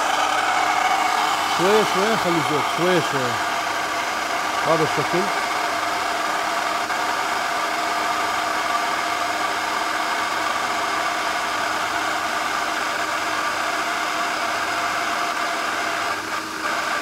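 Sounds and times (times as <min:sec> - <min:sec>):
food processor motor whining: 0:00.0 - 0:17.0.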